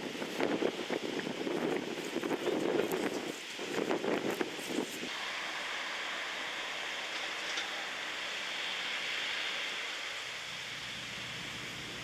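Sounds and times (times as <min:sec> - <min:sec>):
steady rushing hiss: 0:00.0 - 0:12.0.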